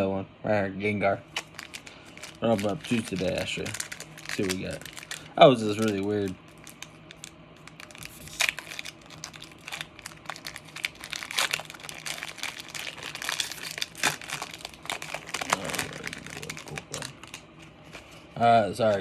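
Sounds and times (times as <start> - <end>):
foil wrapper crinkling: 1.2 - 19.0.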